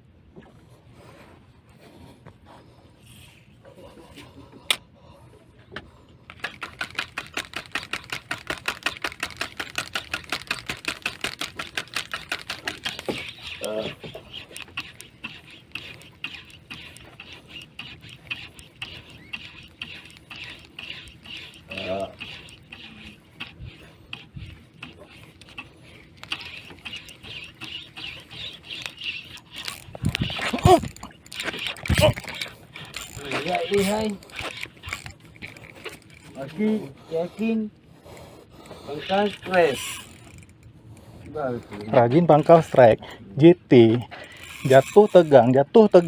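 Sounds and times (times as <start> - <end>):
fishing reel clicking rapidly: 6.3 - 37.6, 38.6 - 43.0, 44.2 - 46.0.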